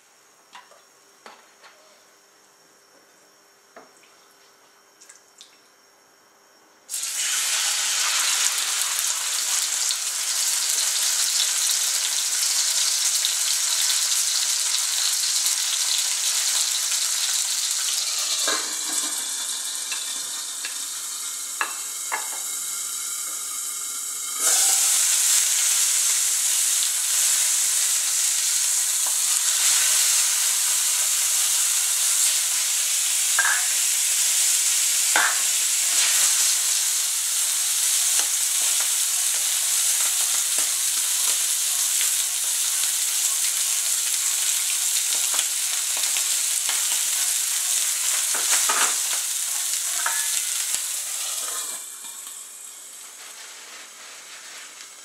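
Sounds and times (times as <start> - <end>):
chicken sizzling in oil: 6.9 - 55.0.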